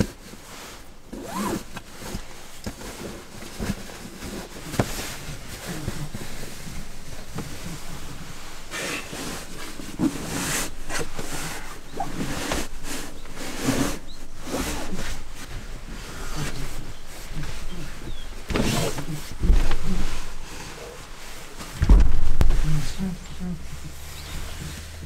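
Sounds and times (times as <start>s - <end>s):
fabric rustling and swishing: 0.1s - 25.0s
soft handling knocks: 1.7s - 25.0s.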